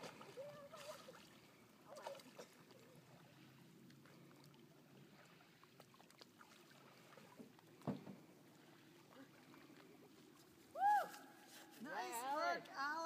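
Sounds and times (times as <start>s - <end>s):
faint lapping lake water: 0.0s - 13.0s.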